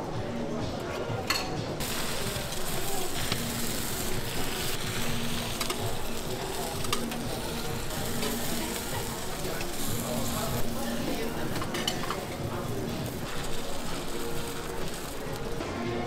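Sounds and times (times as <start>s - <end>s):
batter sizzling on griddle: 1.8s - 16.0s.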